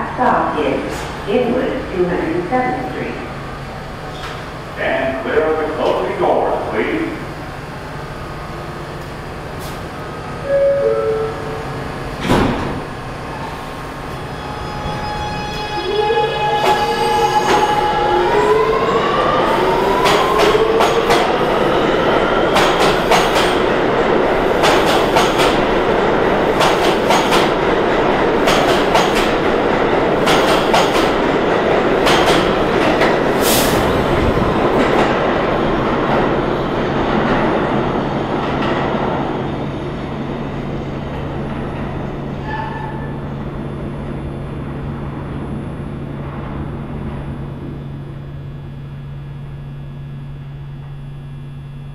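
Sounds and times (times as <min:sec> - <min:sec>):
train rumble: 0:00.0 - 0:51.9.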